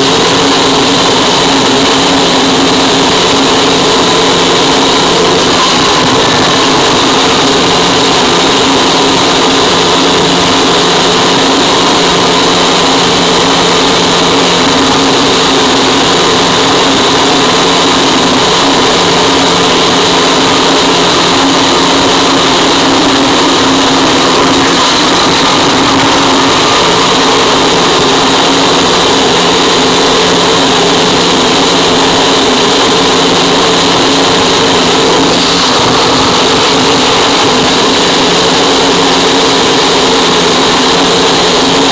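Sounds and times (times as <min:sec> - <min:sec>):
harsh distorted static noise: 0:00.0 - 0:41.9.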